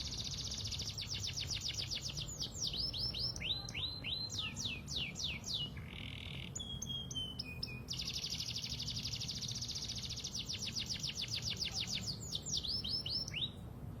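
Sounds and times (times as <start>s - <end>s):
canary singing: 0.0s - 13.6s.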